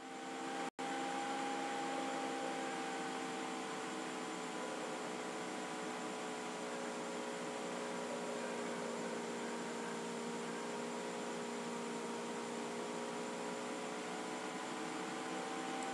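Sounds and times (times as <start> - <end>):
electrical hum: 0.0 - 15.9
faint steady tones: 0.0 - 15.9.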